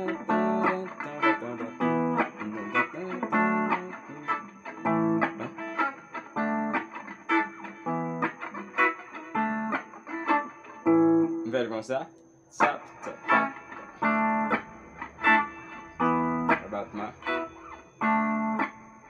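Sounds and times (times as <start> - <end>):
electric guitar chords: 0.0 - 11.7, 12.5 - 19.0.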